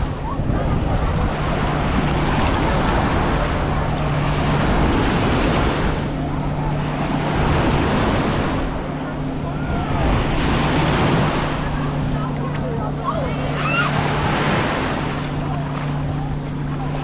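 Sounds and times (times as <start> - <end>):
low steady hum: 0.0 - 17.0
wind buffeting microphone: 0.0 - 17.0.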